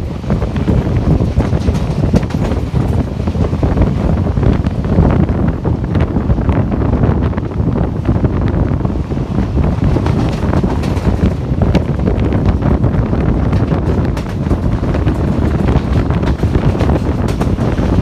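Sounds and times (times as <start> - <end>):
train wheels rumbling and clattering: 0.0 - 18.0
wind buffeting microphone: 0.0 - 18.0.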